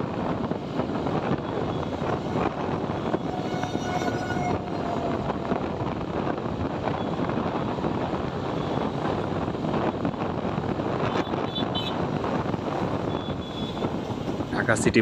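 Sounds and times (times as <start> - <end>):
passing traffic: 0.0 - 15.0
tyres on road: 0.0 - 15.0
wind rushing over microphone: 0.0 - 15.0.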